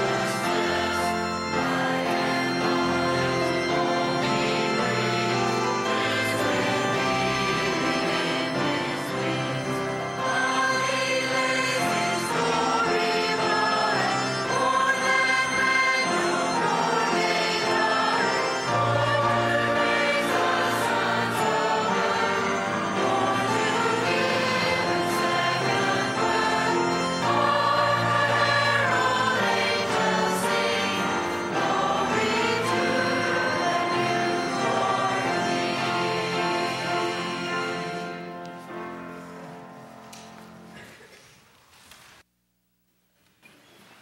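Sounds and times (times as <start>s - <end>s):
choir singing: 0.0s - 39.7s
piano accompaniment: 0.0s - 40.8s.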